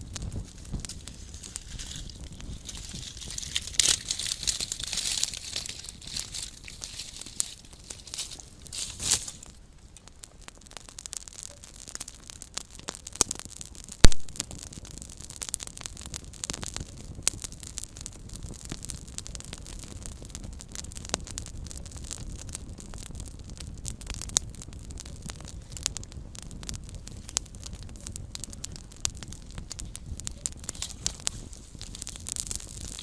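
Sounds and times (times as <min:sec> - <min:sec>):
campfire crackling and popping: 0:00.0 - 0:33.0
fire hiss: 0:00.0 - 0:33.0
low rumble of flame: 0:00.0 - 0:33.0.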